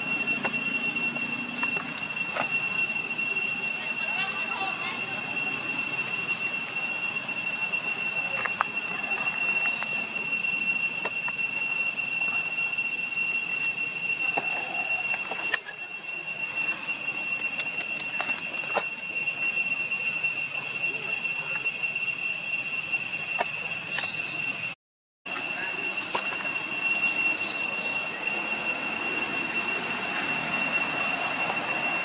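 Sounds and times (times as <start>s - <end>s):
cicadas droning: 0.0s - 32.0s.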